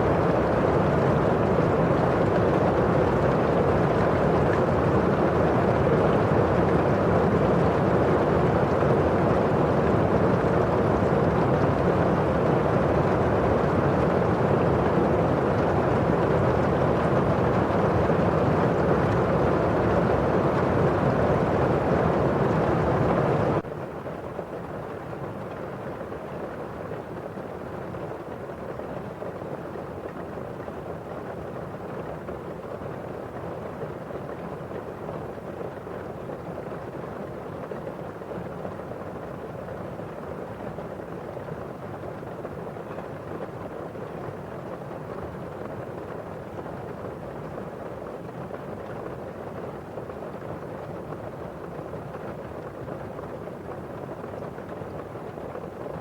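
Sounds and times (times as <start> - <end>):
rain pattering on window: 0.0 - 56.0.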